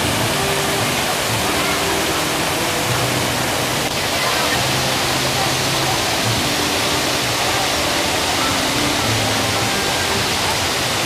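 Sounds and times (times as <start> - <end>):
faint music: 0.0 - 11.0
waterfall rushing and splashing: 0.0 - 11.0.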